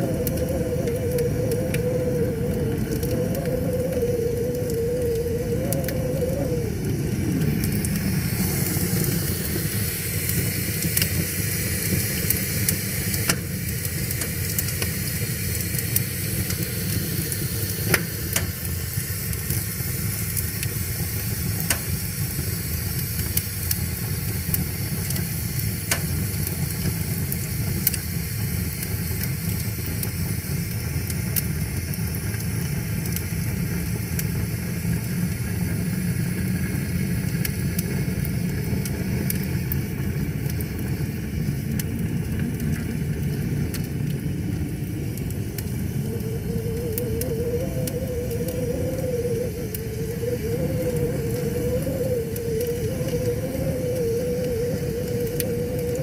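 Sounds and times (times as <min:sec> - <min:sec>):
fire crackling and popping: 0:00.0 - 0:56.0
wood fire flames rushing: 0:00.0 - 0:56.0.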